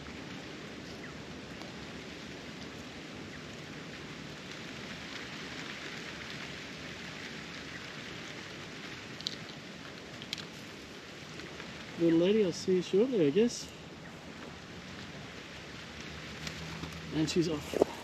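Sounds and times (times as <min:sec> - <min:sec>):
wind through foliage and grass: 0:00.0 - 0:18.0.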